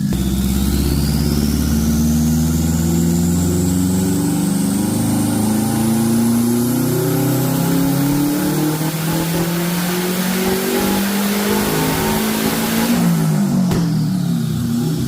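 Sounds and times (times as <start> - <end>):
high whine rising in pitch: 0.0 - 14.8
turbocharged engine running: 0.0 - 15.0.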